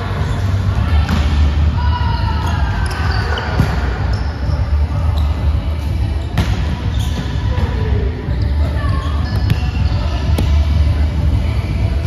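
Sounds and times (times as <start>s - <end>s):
low hum and hall noise: 0.0s - 12.0s.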